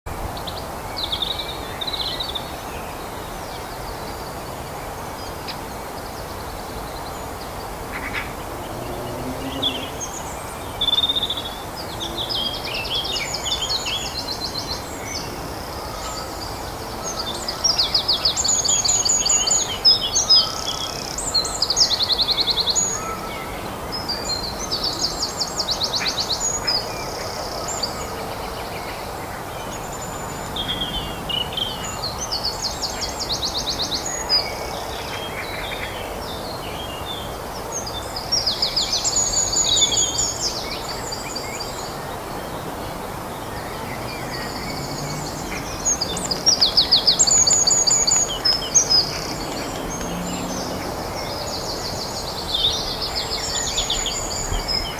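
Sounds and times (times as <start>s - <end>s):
robin singing trills: 5.2s - 54.9s.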